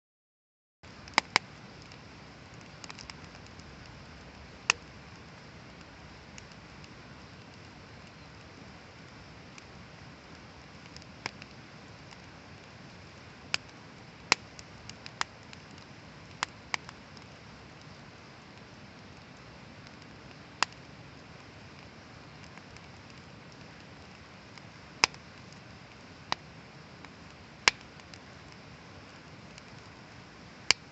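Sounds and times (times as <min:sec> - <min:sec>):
fire popping: 0:00.8 - 0:30.9
wood fire crackling: 0:00.8 - 0:30.9.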